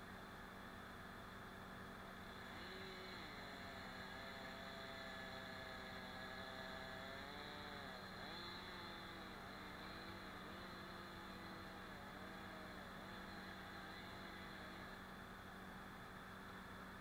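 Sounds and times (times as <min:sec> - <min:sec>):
faint distant engine running: 0:00.0 - 0:17.0.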